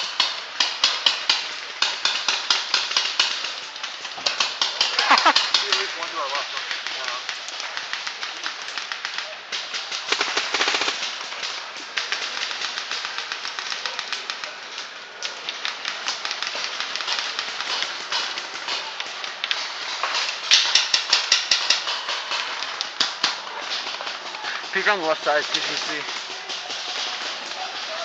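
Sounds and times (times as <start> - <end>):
paintball guns firing pops: 0.0 - 27.7.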